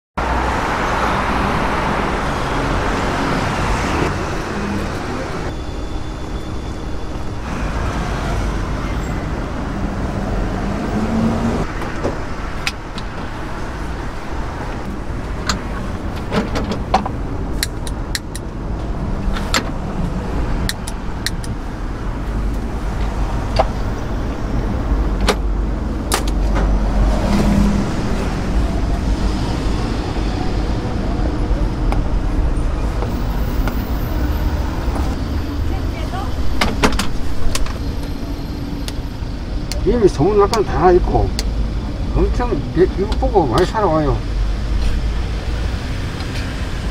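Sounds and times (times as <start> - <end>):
street traffic rumble: 0.2 - 46.9.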